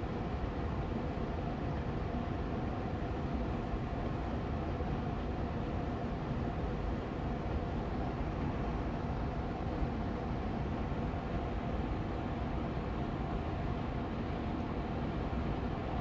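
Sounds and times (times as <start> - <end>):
air purifier fan running: 0.0 - 16.0.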